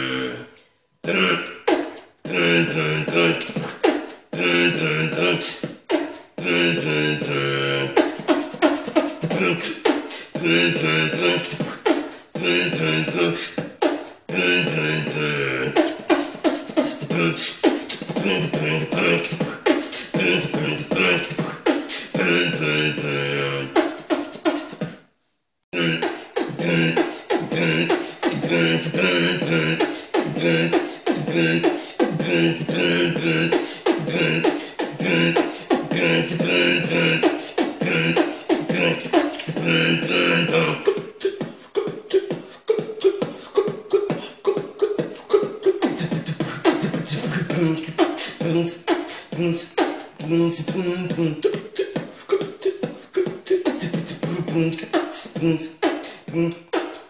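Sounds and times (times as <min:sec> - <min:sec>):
man beatboxing: 0:00.0 - 0:25.0, 0:25.7 - 0:57.0.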